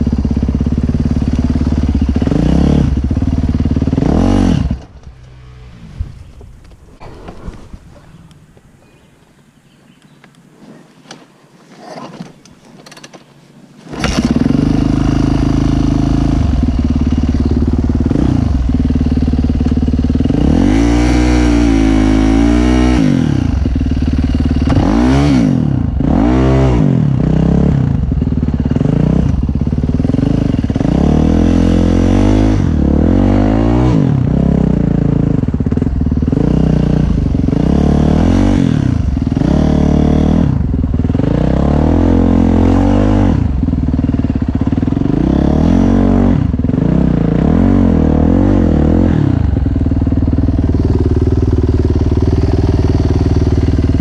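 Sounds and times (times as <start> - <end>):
dirt bike engine revving: 0.0 - 8.3, 13.8 - 54.0.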